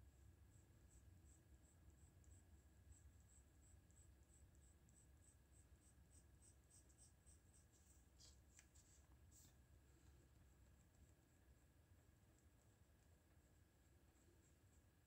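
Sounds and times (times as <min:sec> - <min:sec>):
pencil scratching on paper: 0:00.2 - 0:09.7, 0:10.3 - 0:15.0.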